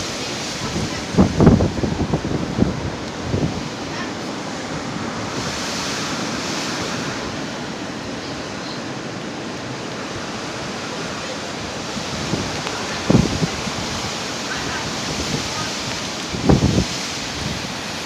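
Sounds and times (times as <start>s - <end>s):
storm wind rushing: 0.0s - 18.0s.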